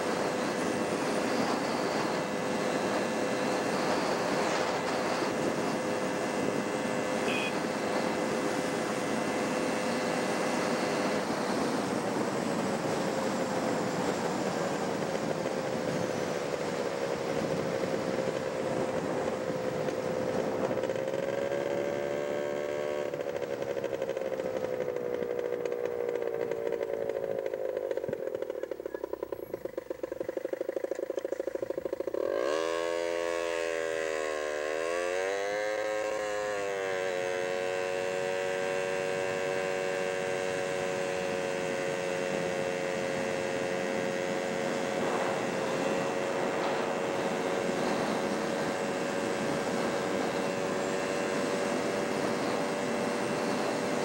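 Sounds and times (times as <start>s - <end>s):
vehicle engine revving: 0.0s - 14.0s, 15.9s - 54.0s.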